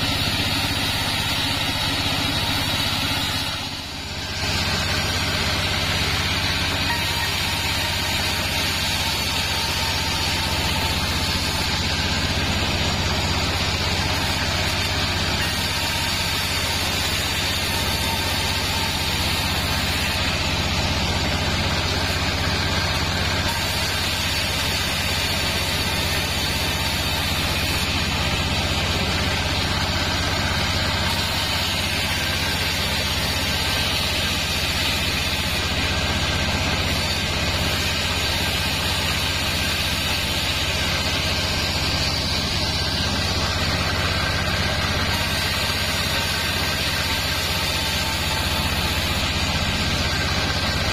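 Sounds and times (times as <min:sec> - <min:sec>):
band saw cutting wood: 0:00.0 - 0:50.9
low motor hum: 0:00.0 - 0:50.9.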